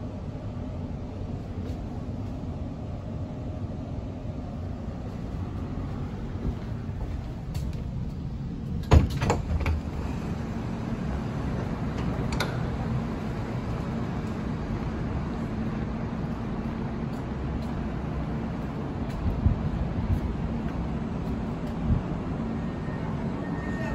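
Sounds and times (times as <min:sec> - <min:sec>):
tram humming: 0:00.0 - 0:23.9.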